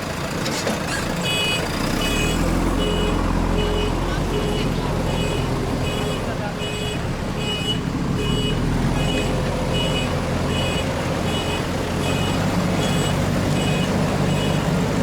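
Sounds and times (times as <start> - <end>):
heavy engine running: 0.0 - 15.0
reversing alarm beeping: 2.0 - 14.7.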